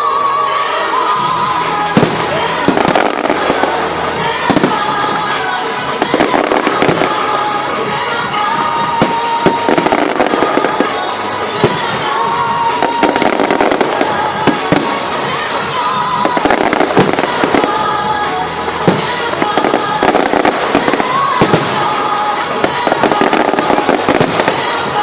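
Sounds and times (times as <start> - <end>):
fireworks bangs and crackles: 0.0 - 25.0
music with long held notes: 0.0 - 25.0.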